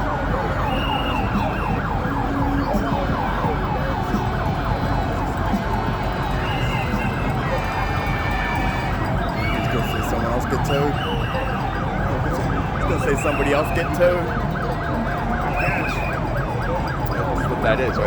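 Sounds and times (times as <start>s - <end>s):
siren yelping: 0.0s - 18.0s
street noise: 0.0s - 18.0s.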